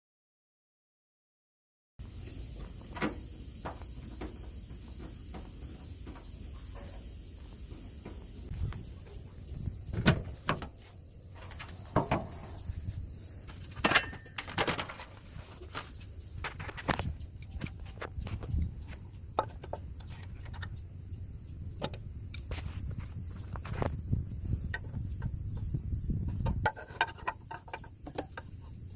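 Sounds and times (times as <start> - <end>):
air conditioner unit humming: 2.0 - 26.4
fan rattling with sharp knocks: 2.2 - 28.9.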